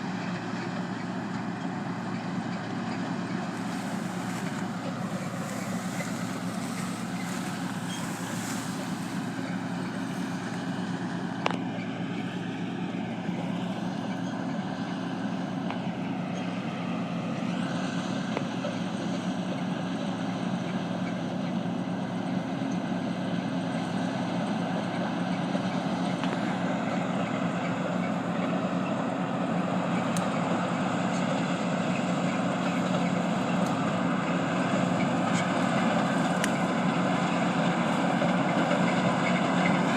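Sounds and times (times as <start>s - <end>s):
harvest machinery engine drone: 0.0s - 39.9s.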